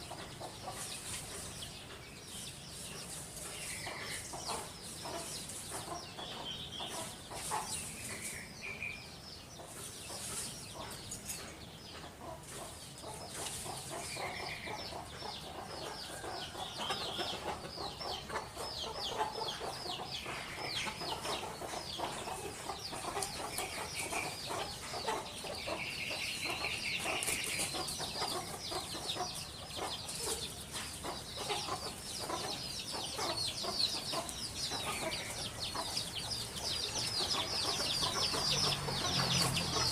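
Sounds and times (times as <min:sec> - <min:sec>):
birds clucking and chirping: 0:00.0 - 0:39.9.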